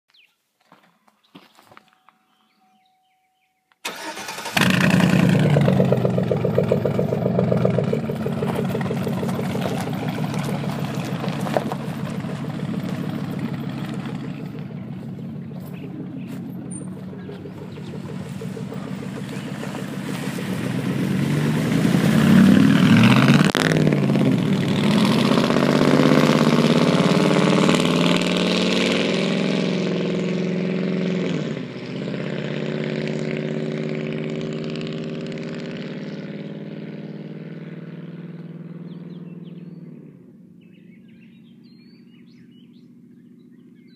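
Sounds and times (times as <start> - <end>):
truck engine starting and revving: 3.8 - 43.9.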